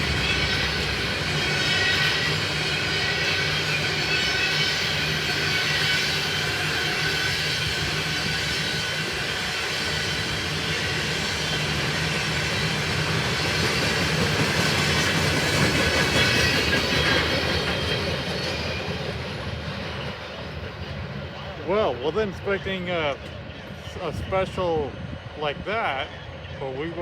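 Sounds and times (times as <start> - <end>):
train wheels on track: 0.0 - 27.0.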